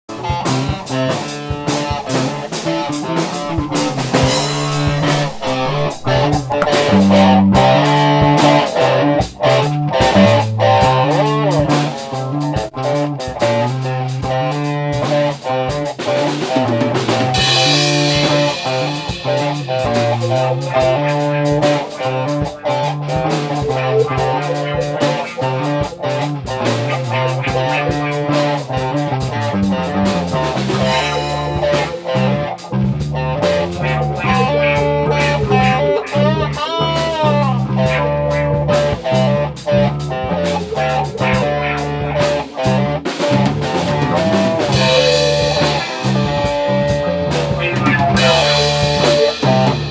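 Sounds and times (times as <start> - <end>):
bass guitar: 0.0 - 49.9
drum kit: 0.1 - 49.9
electric guitars: 0.1 - 49.9.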